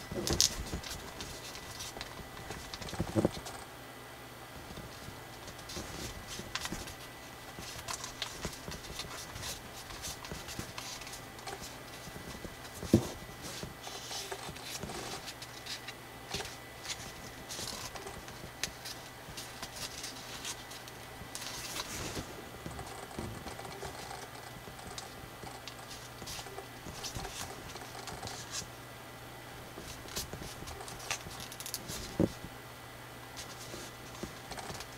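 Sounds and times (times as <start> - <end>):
paper rustling and crinkling: 0.0 - 3.6, 4.6 - 28.7, 29.7 - 32.5, 33.4 - 34.9.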